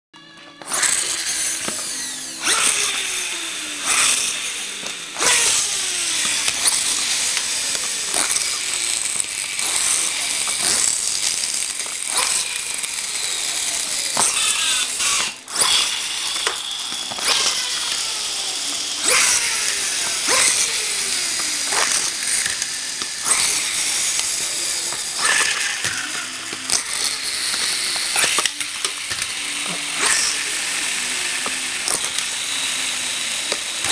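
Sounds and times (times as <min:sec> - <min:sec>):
toy train motor whirring: 0:00.2 - 0:33.9.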